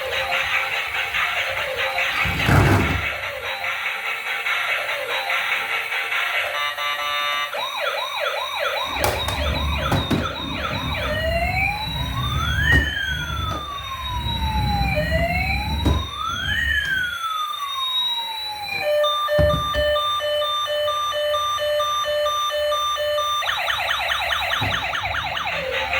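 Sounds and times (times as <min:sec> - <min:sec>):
toy electronic siren: 0:00.0 - 0:25.9.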